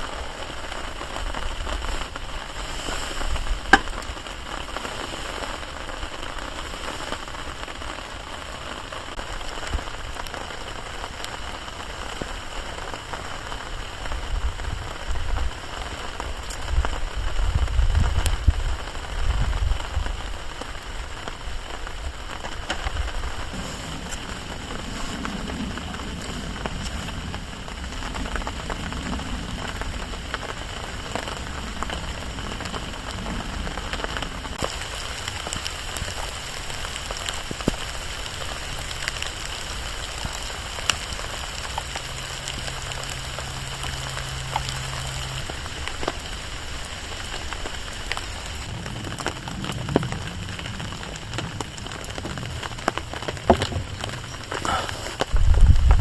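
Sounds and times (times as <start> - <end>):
rain drops ticking on tarp: 0.0 - 56.0.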